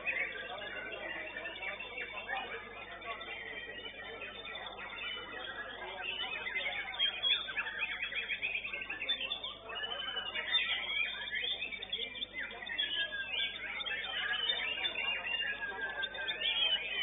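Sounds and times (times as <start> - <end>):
bird singing trills and whistles: 0.0 - 17.0.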